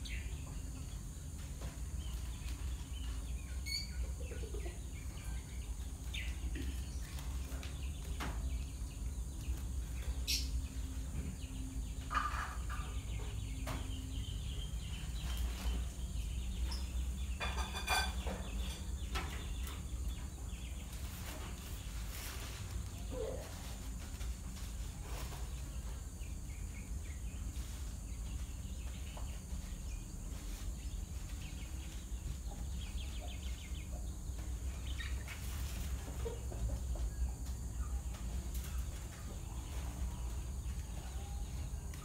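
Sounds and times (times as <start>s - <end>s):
bird chirps and clucks: 0.0s - 42.0s.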